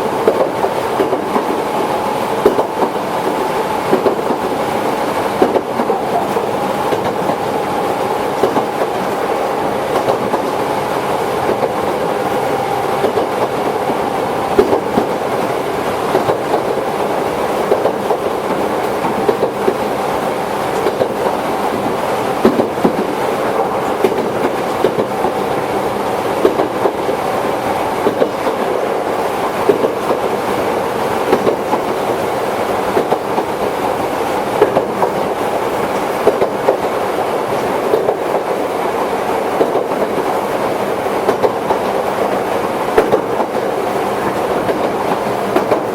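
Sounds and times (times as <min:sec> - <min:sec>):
electric train whine: 0:00.0 - 0:45.9
wheels clacking over rail joints: 0:00.0 - 0:45.9.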